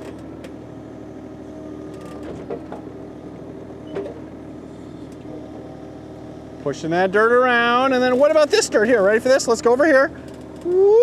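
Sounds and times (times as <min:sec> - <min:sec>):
excavator running: 0:00.0 - 0:11.0.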